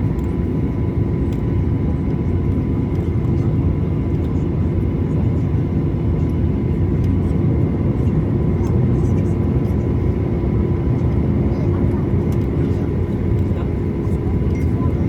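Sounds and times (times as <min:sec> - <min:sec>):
aircraft cabin engine rumble: 0:00.0 - 0:15.0
thin steady engine whine: 0:00.0 - 0:15.0.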